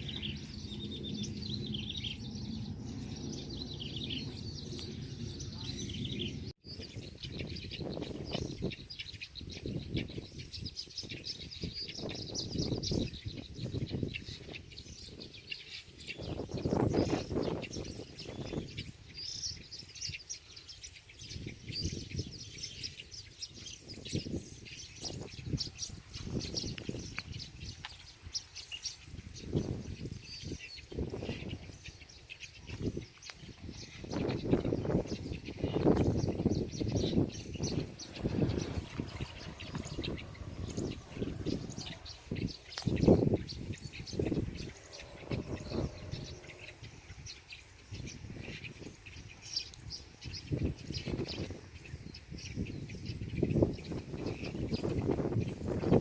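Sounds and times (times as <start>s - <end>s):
birds chirping and singing: 0.0s - 56.0s
wind rumbling on microphone: 0.0s - 56.0s.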